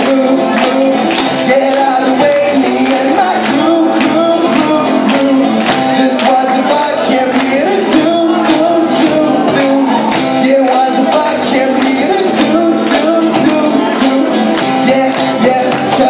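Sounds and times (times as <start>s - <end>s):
box drum beat: 0.0s - 16.0s
electric guitar: 0.0s - 16.0s
person singing: 0.0s - 16.0s.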